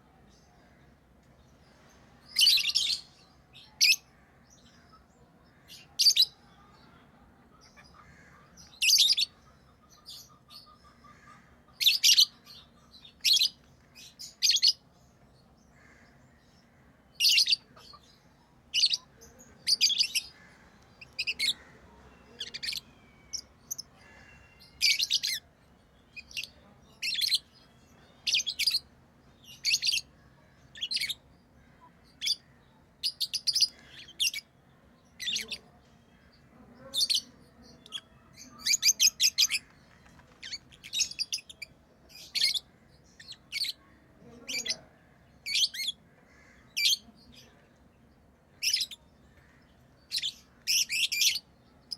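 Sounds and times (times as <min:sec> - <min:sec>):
lovebirds chirping: 0:00.0 - 0:51.9.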